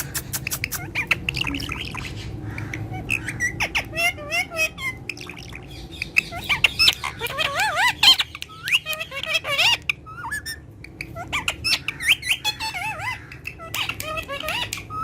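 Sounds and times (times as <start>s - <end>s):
parrot squawking and chattering: 0.0s - 15.0s.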